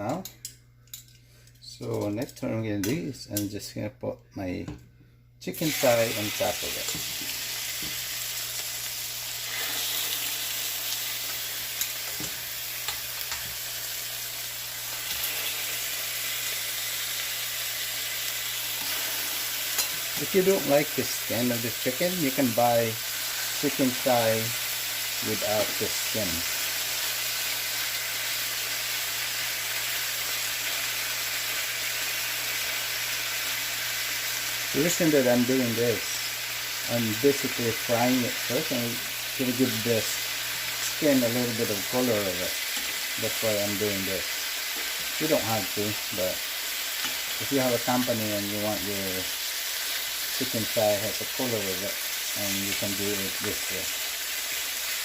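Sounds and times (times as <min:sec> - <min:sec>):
chicken sizzling in frying pan: 0:05.5 - 0:55.0.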